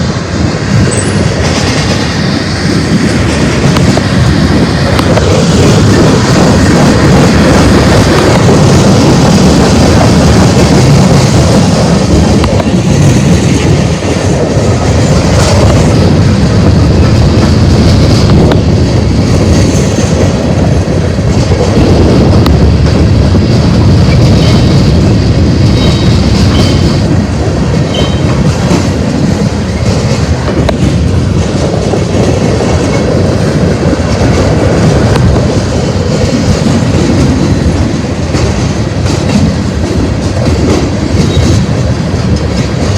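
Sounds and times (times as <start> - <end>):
freight train wheels on rails: 0.0 - 42.9.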